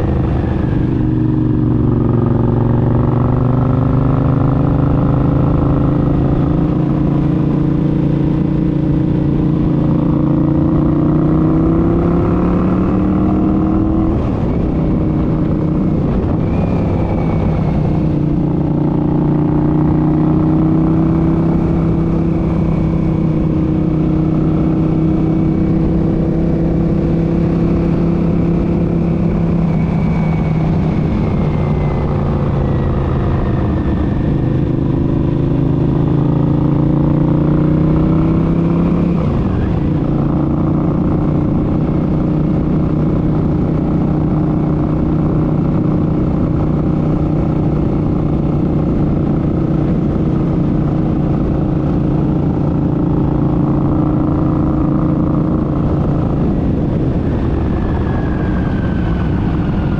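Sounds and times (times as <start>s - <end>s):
motorcycle engine with transmission whine: 0.0s - 59.9s.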